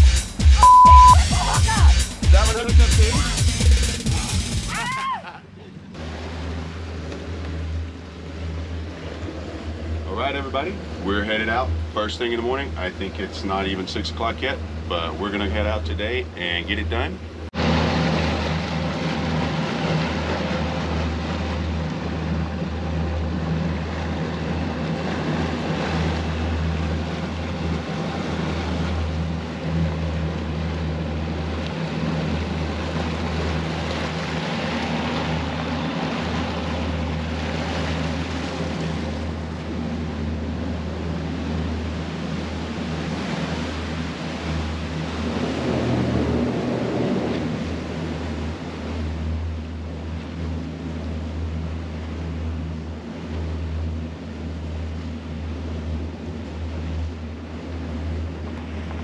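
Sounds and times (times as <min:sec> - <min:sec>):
outboard engines humming: 0:00.0 - 0:59.0
water wash: 0:00.0 - 0:59.0.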